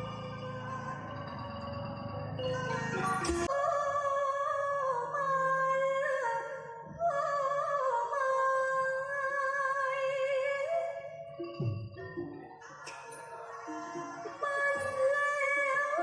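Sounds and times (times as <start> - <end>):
woman singing with vibrato: 0.0 - 11.4, 13.4 - 16.0.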